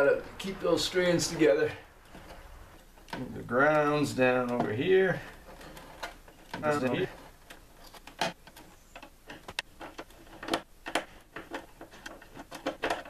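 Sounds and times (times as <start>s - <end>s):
screwdriver and wires clicking on metal: 2.0s - 13.0s.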